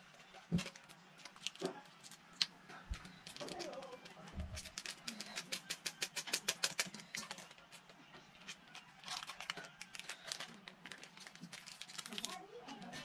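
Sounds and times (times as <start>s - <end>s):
dry food crackling: 0.0s - 13.0s.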